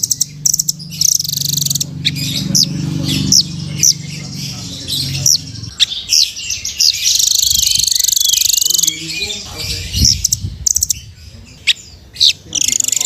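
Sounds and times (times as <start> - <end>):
bird high chip notes: 0.0 - 11.1
rapid high bird trill: 0.0 - 13.0.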